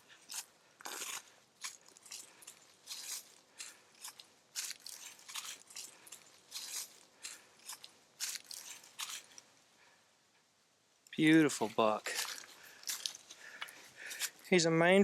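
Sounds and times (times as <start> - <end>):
footsteps crunching dry grass: 0.0 - 9.4, 11.2 - 14.7.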